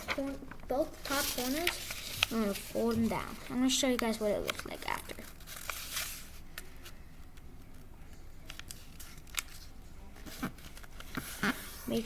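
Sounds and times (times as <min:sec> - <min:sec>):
paper being folded and creased: 0:00.0 - 0:07.0, 0:08.4 - 0:12.0.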